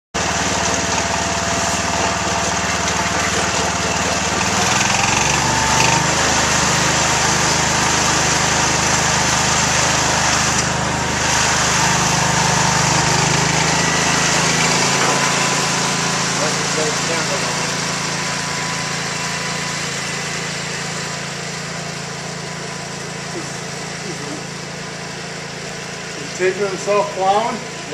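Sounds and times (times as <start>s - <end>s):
garden tractor engine running: 0.2s - 27.9s.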